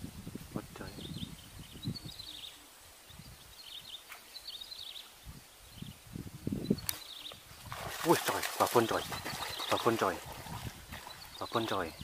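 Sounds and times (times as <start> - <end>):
outdoor background noise: 0.0 - 12.0
faint bird chirping: 0.8 - 7.7, 8.8 - 12.0.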